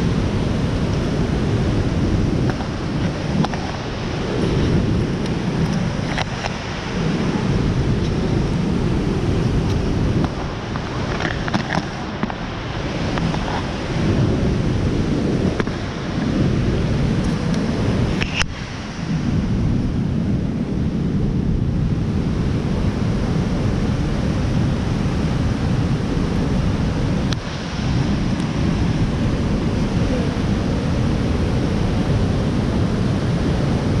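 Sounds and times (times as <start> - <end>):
waterfall rushing roar: 0.0 - 34.0
wind rumbling on microphone: 0.0 - 34.0.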